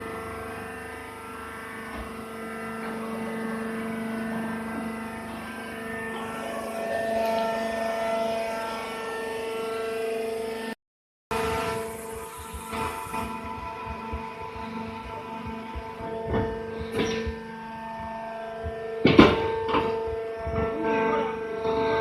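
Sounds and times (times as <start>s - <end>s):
machinery humming with a whine: 0.0s - 22.0s.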